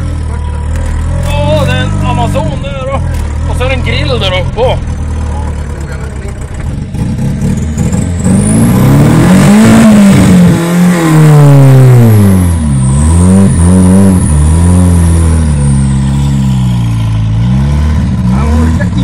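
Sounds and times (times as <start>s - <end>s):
turbocharged car engine revving: 0.0s - 19.0s.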